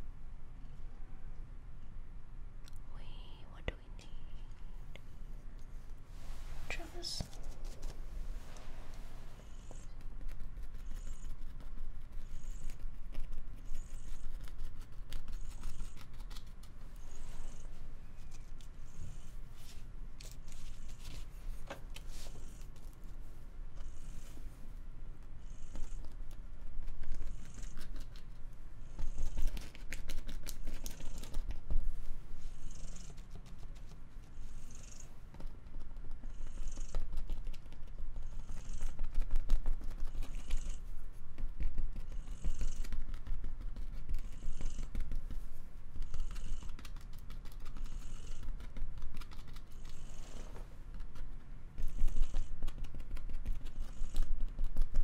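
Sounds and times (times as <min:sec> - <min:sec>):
cat purring: 0:06.2 - 0:21.3, 0:25.2 - 0:55.0.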